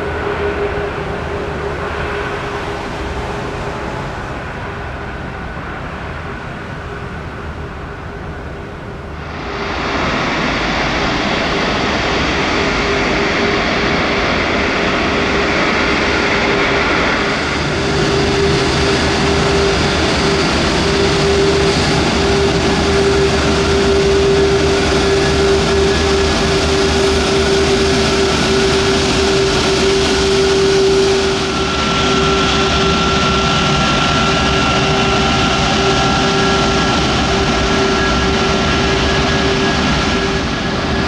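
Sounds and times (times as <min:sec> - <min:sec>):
jet engines whining: 0:00.0 - 0:07.1, 0:08.8 - 0:41.0.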